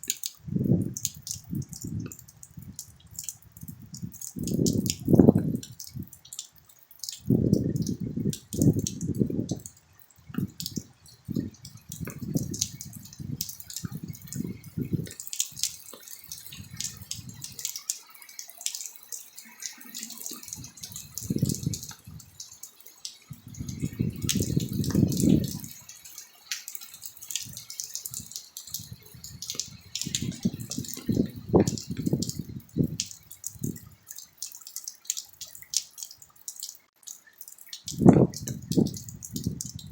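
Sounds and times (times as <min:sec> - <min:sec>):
rain dripping and splashing: 0:00.0 - 0:39.9.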